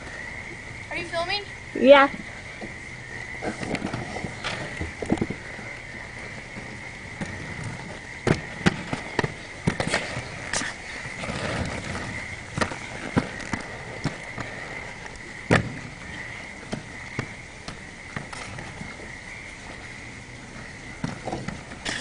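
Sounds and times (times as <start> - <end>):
skates rolling on concrete: 0.0 - 22.0.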